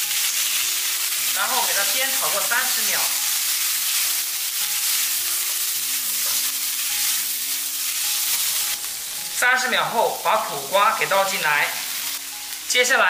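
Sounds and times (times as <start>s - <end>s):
faint background music: 0.0s - 13.0s
vegetables sizzling in oil: 0.0s - 13.0s.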